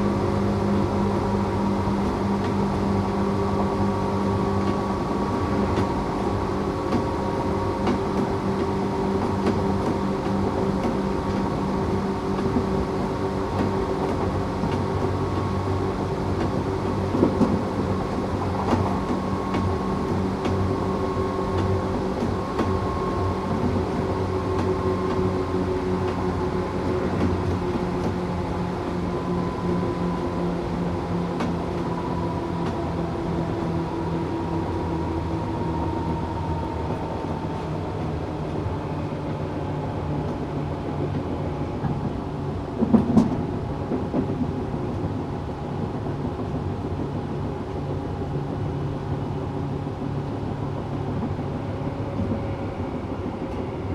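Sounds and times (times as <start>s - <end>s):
train running rumble: 0.0s - 53.9s.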